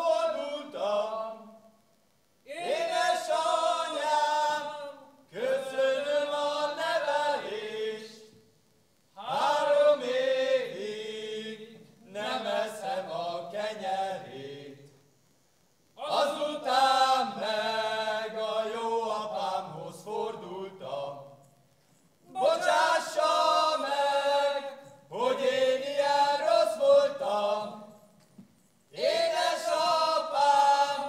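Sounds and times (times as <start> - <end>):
men singing in unison: 0.0 - 1.5, 2.5 - 8.3, 9.2 - 14.9, 16.0 - 21.4, 22.3 - 28.0, 28.9 - 31.0.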